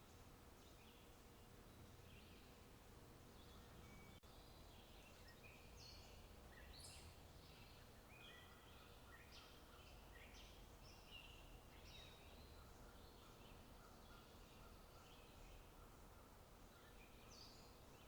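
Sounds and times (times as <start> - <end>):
songbird chirping and trilling: 3.2 - 18.0.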